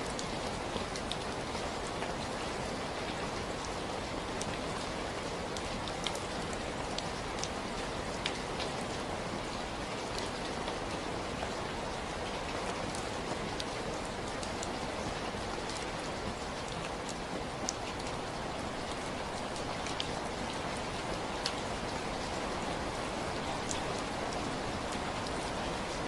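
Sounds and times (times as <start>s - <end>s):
raindrops ticking on hard surface: 0.0s - 26.0s
steady rainfall: 0.0s - 26.0s.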